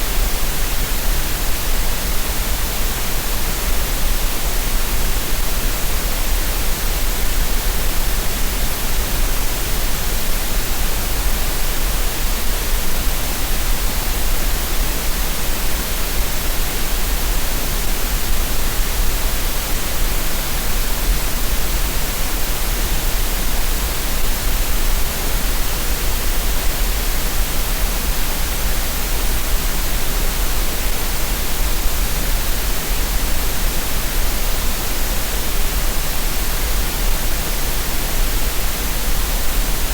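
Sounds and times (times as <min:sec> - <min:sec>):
steady green noise hiss: 0:00.0 - 0:39.9.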